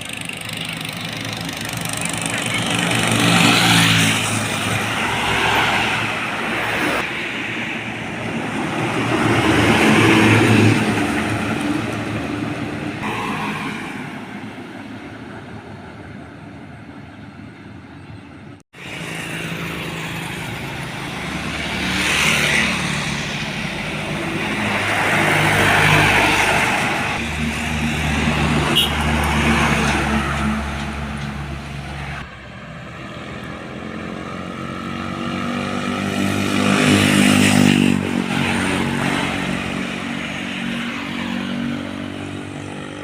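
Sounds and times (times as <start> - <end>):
heavy trucks passing: 0.0 - 43.0.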